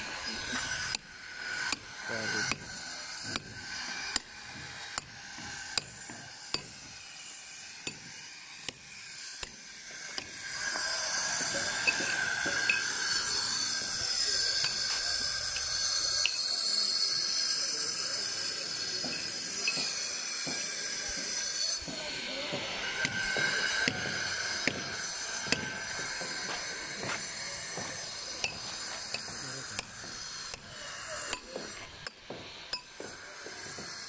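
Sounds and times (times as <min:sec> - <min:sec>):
hammer striking steel chisel: 0:00.0 - 0:07.0, 0:07.7 - 0:16.5, 0:18.4 - 0:34.0
steady high hiss: 0:06.2 - 0:34.0.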